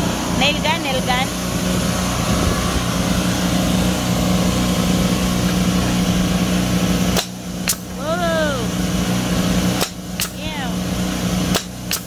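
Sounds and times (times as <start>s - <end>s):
air compressor motor humming: 0.0s - 12.0s.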